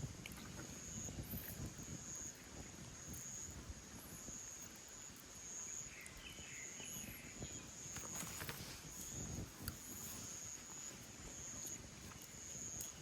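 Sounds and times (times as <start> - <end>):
insects trilling: 0.6 - 13.0.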